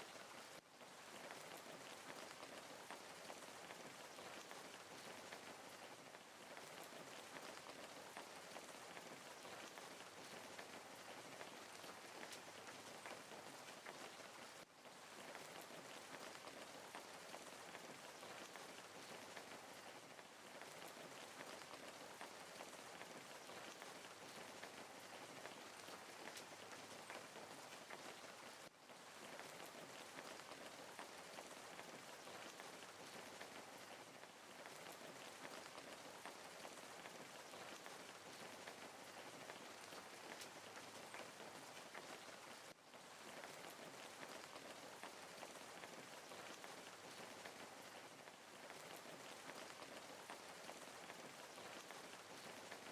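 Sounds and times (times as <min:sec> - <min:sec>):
wood fire crackling: 0:00.2 - 0:52.9.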